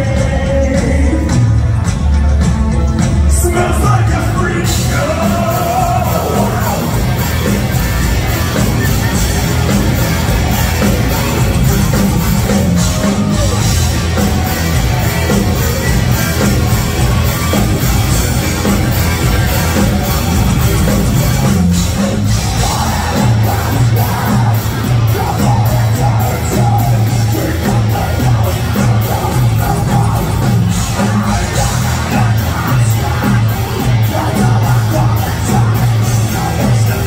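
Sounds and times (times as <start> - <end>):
heavy metal band playing: 0.0 - 37.0.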